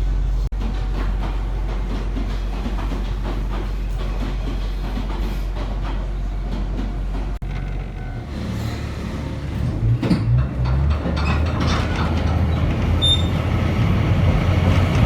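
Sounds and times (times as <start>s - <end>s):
diesel train rumbling on track: 0.0s - 15.0s
train knocks: 0.5s - 15.0s.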